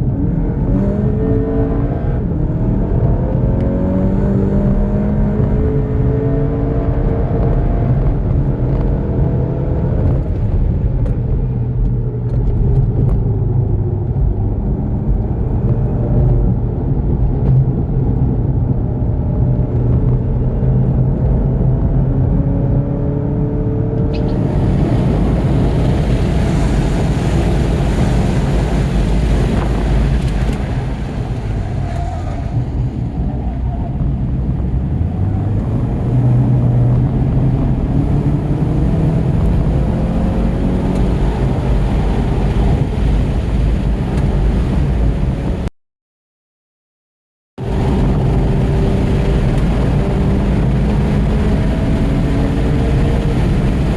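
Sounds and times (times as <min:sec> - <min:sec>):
car engine running hard: 0:00.0 - 0:45.7, 0:47.6 - 0:53.9.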